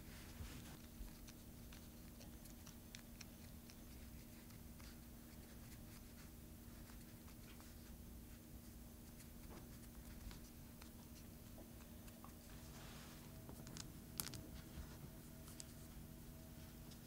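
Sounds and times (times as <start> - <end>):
low steady hum: 0.0 - 17.0
soft rustling of pastry: 0.0 - 17.0.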